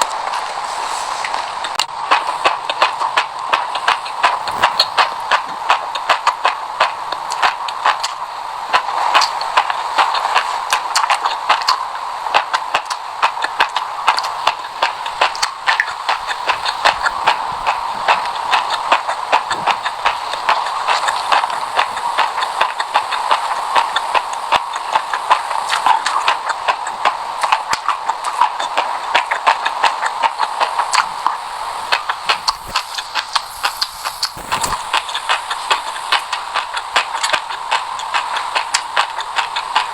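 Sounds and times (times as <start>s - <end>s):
person chewing crunchy seeds: 0.0s - 8.2s, 12.4s - 39.9s.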